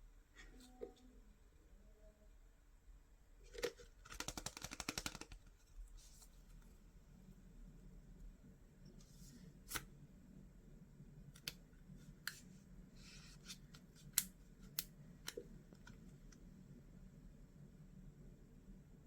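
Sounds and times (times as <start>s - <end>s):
low steady hum: 0.0s - 4.2s, 5.2s - 19.0s.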